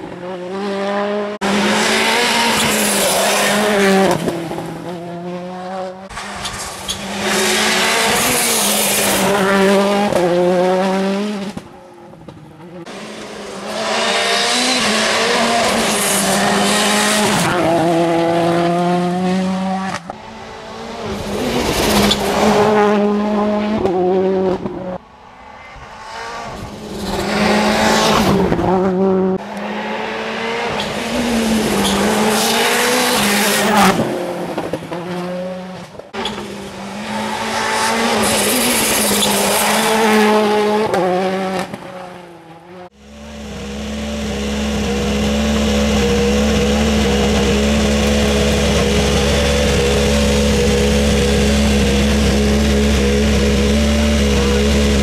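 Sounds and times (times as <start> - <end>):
rally car engine at full throttle: 0.0 - 55.0.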